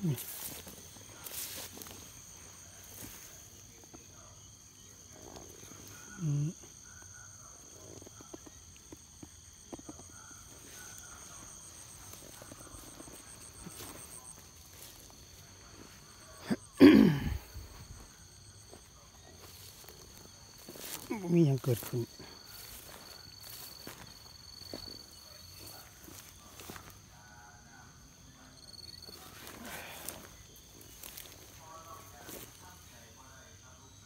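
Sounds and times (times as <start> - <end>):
insects chirring: 0.0 - 34.0.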